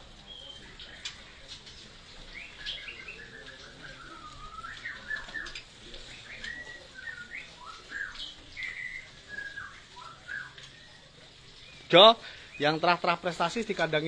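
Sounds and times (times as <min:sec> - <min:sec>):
birds singing whistled notes: 0:00.0 - 0:14.0.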